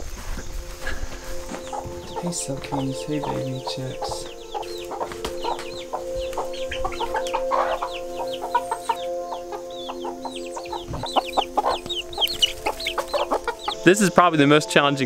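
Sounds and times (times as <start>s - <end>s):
baby chicks peeping: 0.0s - 14.2s.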